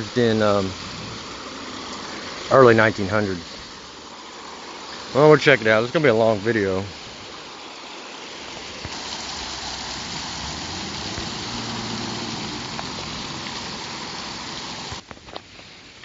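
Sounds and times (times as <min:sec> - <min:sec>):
water rushing and splashing: 0:00.0 - 0:15.1.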